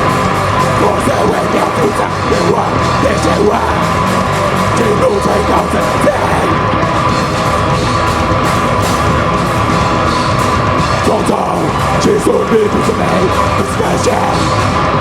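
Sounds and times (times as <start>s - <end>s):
bass guitar: 0.0s - 15.0s
distorted electric guitars: 0.0s - 15.0s
drums: 0.0s - 15.0s.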